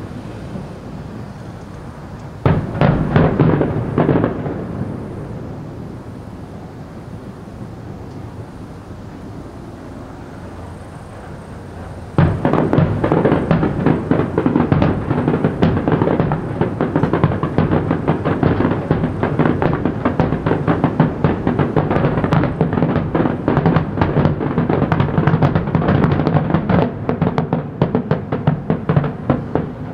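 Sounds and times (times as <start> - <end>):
fireworks bursting: 0.0 - 29.9.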